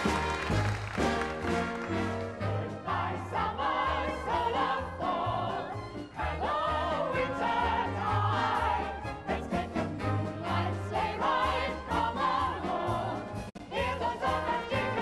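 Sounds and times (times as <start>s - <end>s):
group singing in chorus: 1.9s - 15.0s.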